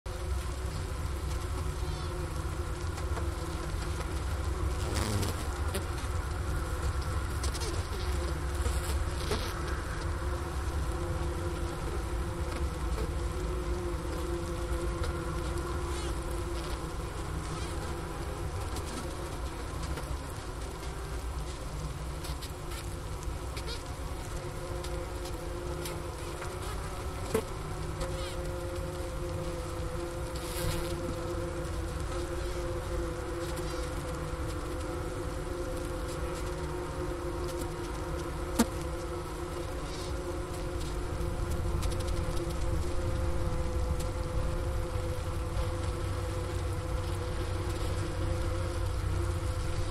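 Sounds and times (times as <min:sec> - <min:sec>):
bees humming in hive: 0:00.1 - 0:49.9.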